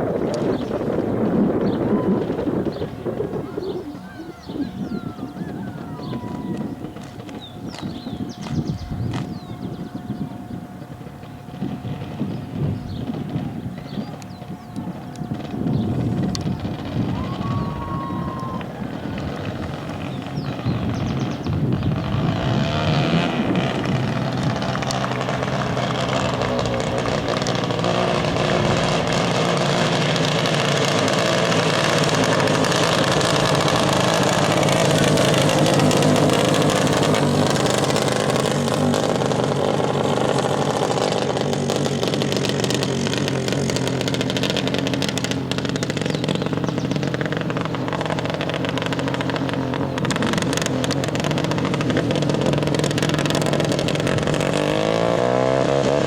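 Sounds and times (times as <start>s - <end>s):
racing kart engines: 0.0s - 56.0s.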